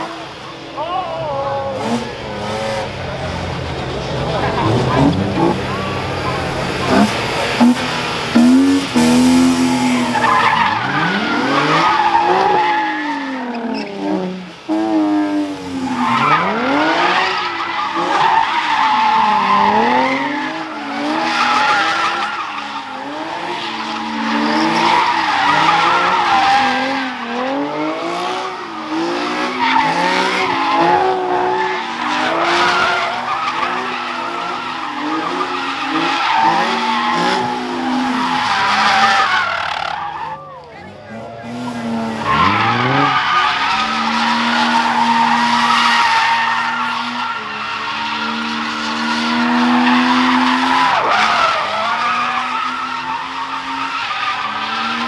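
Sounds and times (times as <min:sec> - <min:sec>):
car engine revving: 0:00.0 - 0:55.0
tyres squealing and skidding: 0:00.0 - 0:55.0.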